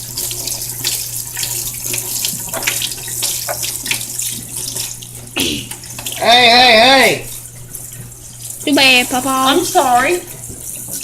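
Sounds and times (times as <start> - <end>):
water running from sink tap: 0.0 - 11.0.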